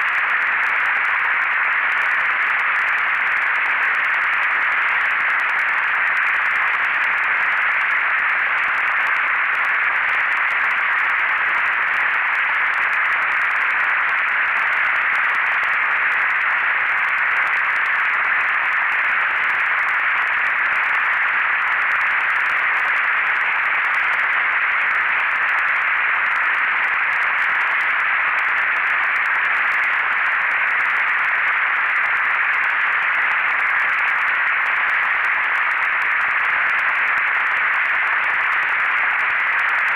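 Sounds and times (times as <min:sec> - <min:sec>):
synthesized static hiss: 0:00.0 - 0:39.9.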